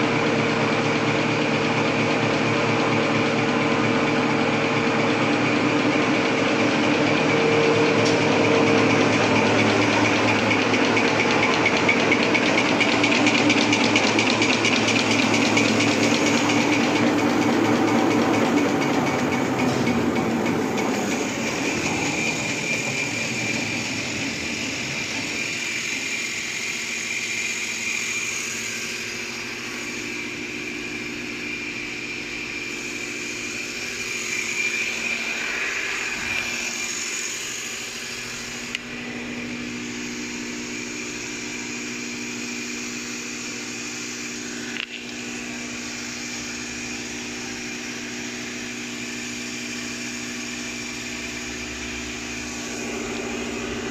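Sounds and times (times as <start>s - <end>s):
paper making machine humming: 0.0s - 53.9s.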